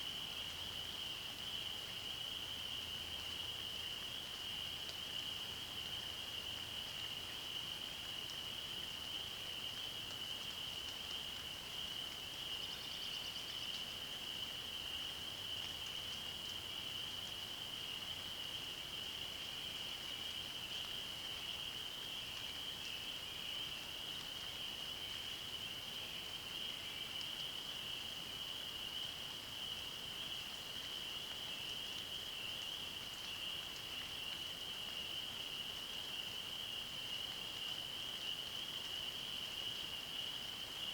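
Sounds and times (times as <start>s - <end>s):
faint background hiss: 0.0s - 40.9s
faint outdoor background noise: 0.0s - 40.9s
frogs chorus drone: 0.0s - 40.9s.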